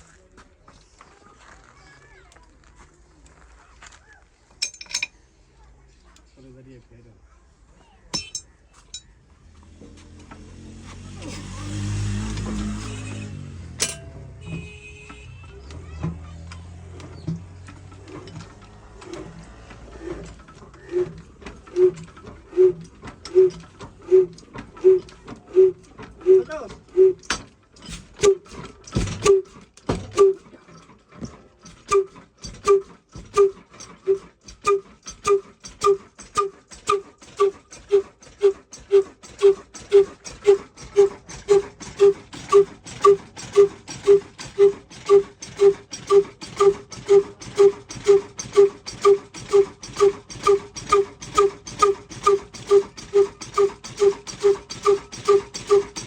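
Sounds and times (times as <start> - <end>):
diesel engine starting: 9.1 - 56.0.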